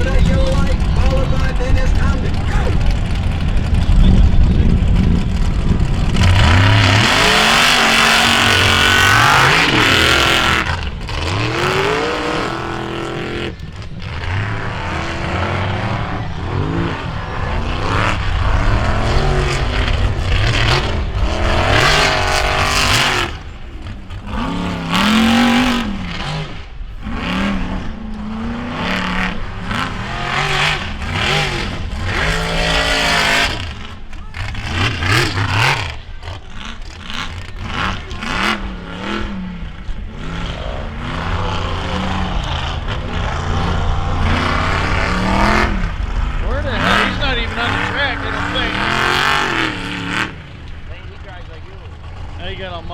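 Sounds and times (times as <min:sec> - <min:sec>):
off-road vehicle engines revving: 0:00.0 - 0:52.9.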